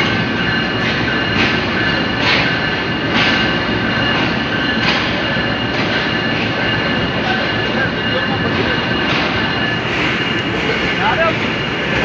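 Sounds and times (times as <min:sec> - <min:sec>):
train coach rumble: 0:00.0 - 0:12.0
train wheel squeal: 0:00.0 - 0:12.0
wheels clacking over rail joints: 0:00.0 - 0:12.0.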